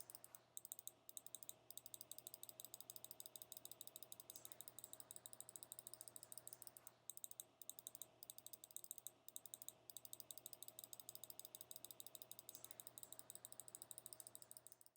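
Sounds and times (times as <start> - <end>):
rapid small sharp clicks: 0.0 - 14.9.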